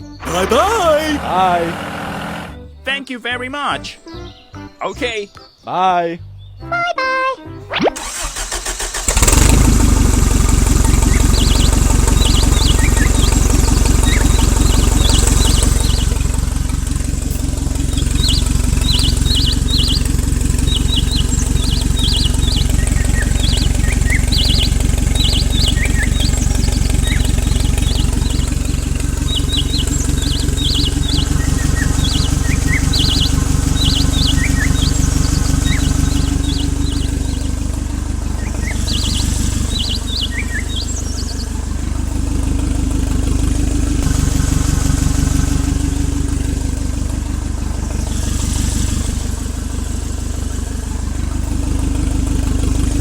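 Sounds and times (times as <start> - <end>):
birds chirping: 0.0 - 53.0
small engine running: 0.2 - 2.7, 8.0 - 53.0.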